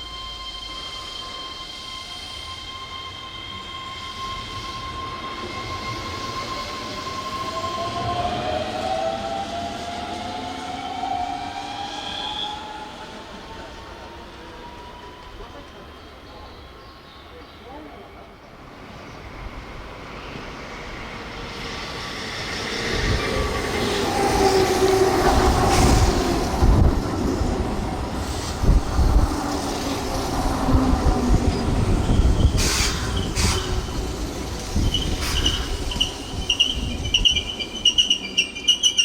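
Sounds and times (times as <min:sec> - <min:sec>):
train wheels whining: 0:00.0 - 0:17.4, 0:18.8 - 0:39.0
train rumble: 0:01.3 - 0:39.0.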